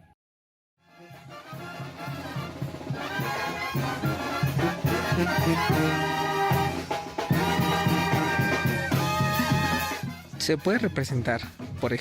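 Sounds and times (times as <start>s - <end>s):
brass band playing: 0.8s - 12.0s.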